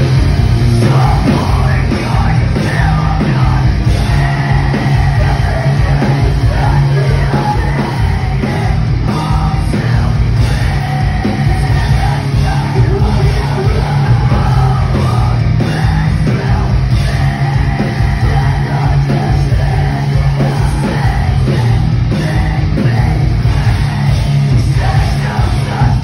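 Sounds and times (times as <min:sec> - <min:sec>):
distorted electric guitars: 0:00.0 - 0:26.0
drums: 0:00.0 - 0:26.0.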